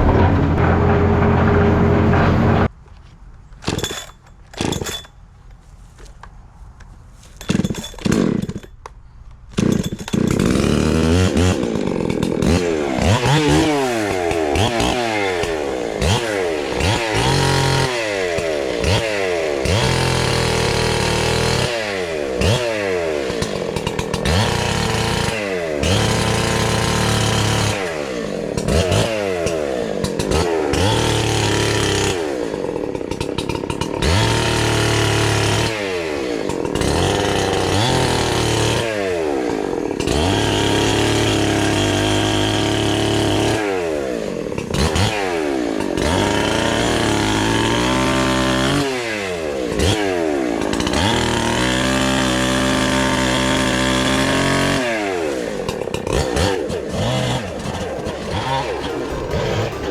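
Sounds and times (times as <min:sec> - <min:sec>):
chainsaw cutting log: 0:00.0 - 0:02.7, 0:03.6 - 0:05.0, 0:07.4 - 0:08.7, 0:09.5 - 0:59.9.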